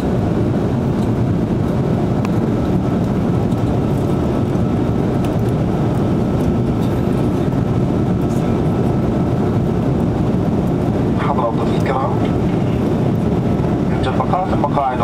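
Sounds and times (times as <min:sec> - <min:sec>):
jet engine cabin noise: 0:00.0 - 0:15.0.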